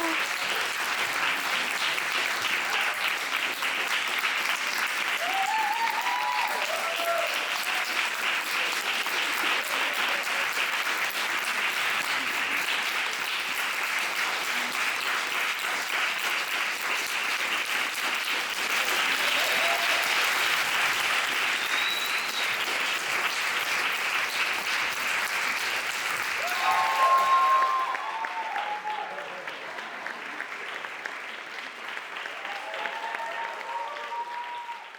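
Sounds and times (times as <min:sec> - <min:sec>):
audience applauding: 0:00.0 - 0:34.9.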